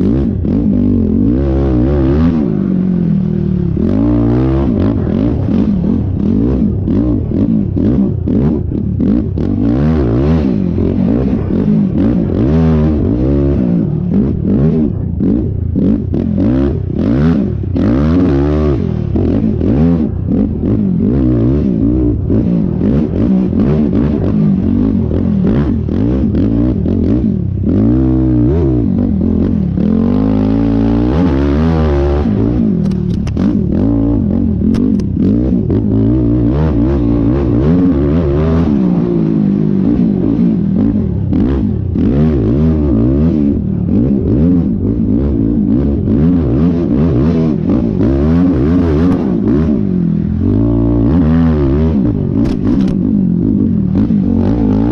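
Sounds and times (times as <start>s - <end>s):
knocks and clatter over ruts: 0.0s - 54.9s
quad engine revving: 0.0s - 54.9s.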